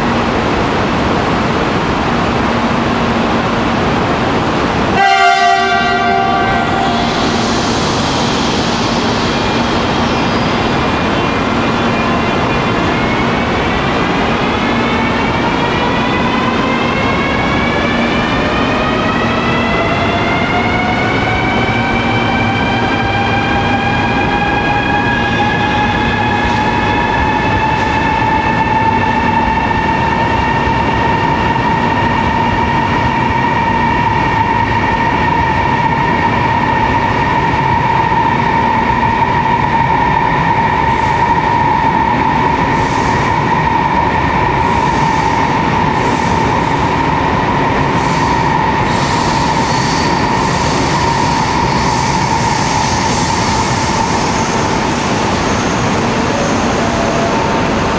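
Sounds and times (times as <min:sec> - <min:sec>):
electric train whine: 0:00.0 - 0:57.9.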